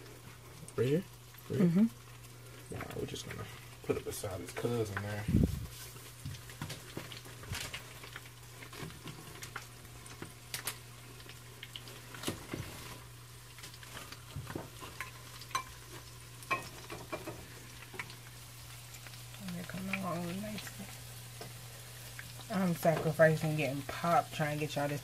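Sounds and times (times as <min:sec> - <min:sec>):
egg rolls sizzling in oil: 0:00.0 - 0:25.0.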